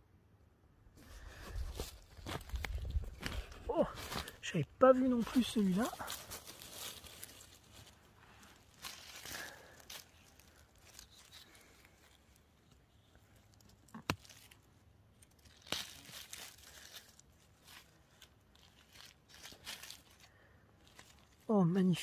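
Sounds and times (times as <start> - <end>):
dry leaves rustling and crackling: 1.2 - 22.0.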